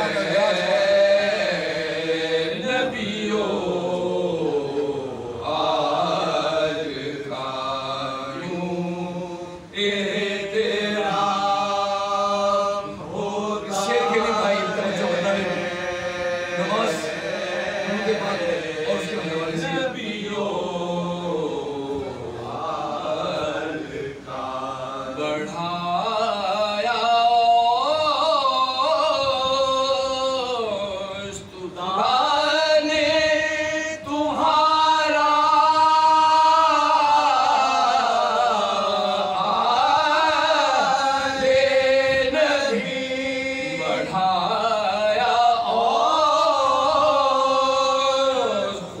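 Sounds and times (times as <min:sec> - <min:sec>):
men chanting: 0:00.0 - 0:49.0.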